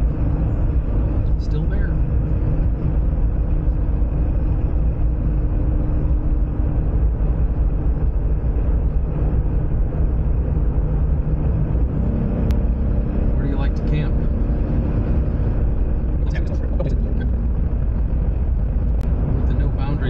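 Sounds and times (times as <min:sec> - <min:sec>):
engine and tyre rumble in cabin: 0:00.0 - 0:20.0.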